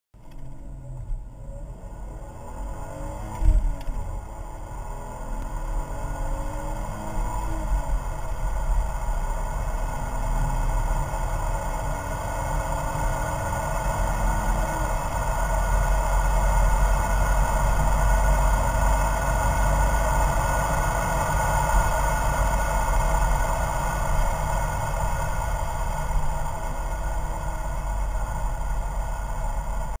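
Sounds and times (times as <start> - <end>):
car engine accelerating: 0.2 - 30.0
road and wind noise: 0.2 - 30.0.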